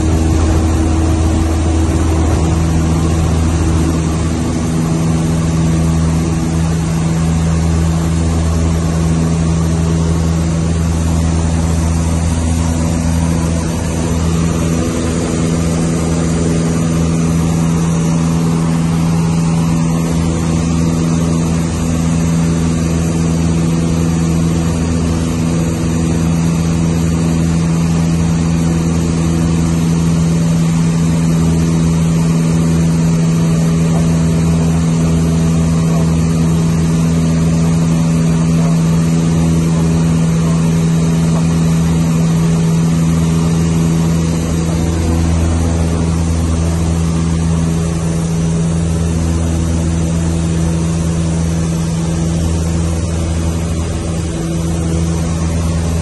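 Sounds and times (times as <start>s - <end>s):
airplane engine and propeller drone: 0.0s - 56.0s.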